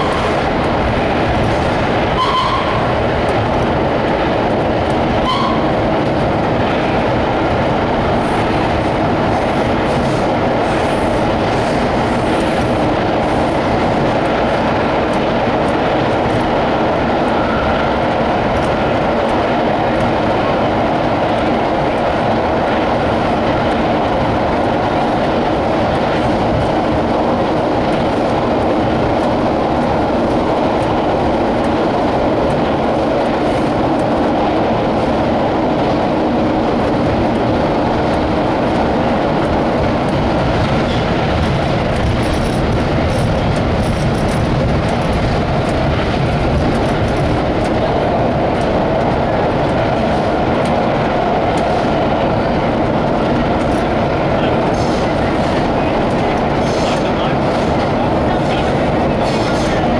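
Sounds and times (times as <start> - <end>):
subway train rumbling in tunnel: 0.0 - 59.9.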